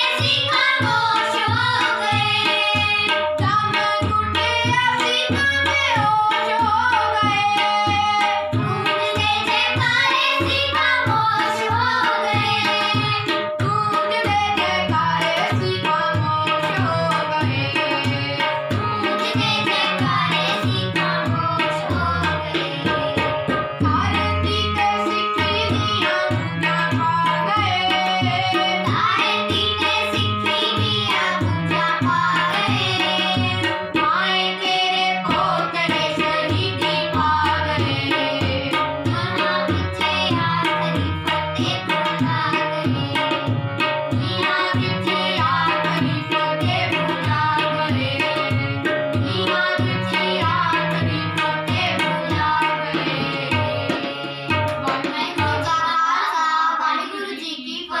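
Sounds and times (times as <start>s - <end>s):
tabla strokes: 0.0s - 55.8s
harmonium chords: 0.0s - 58.0s.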